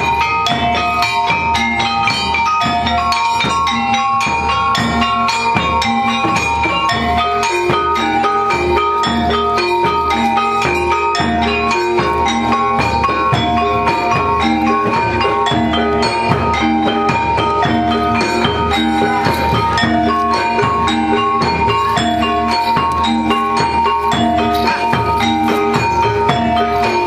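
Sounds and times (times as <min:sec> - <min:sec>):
metallophones and gongs melody: 0:00.0 - 0:27.0
steady drum beat: 0:00.0 - 0:27.0.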